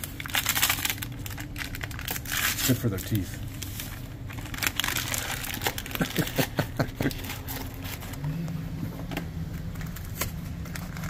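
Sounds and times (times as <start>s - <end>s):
packets crinkling and rustling: 0.0s - 8.3s, 9.0s - 11.0s
steady low hum: 0.0s - 11.0s.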